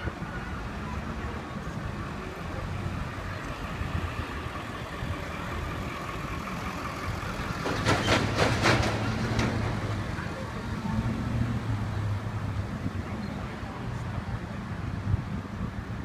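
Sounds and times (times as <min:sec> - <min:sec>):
city street noise: 0:00.0 - 0:16.0.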